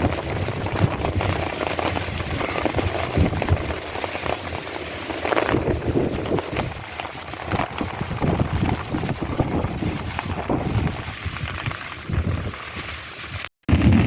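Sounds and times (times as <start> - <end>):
heavy rain falling: 0.0 - 12.6
wind buffeting microphone: 0.0 - 12.9, 13.7 - 14.0.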